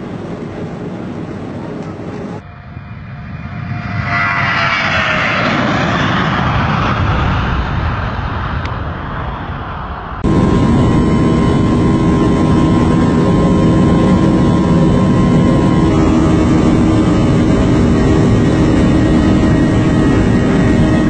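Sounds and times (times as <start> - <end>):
aircraft engine drone: 0.0 - 21.0.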